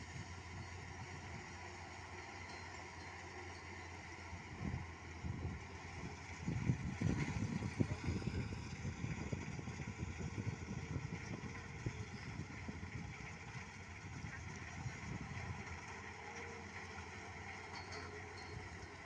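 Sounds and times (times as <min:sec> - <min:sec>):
combine harvester engine running: 0:00.0 - 0:19.0.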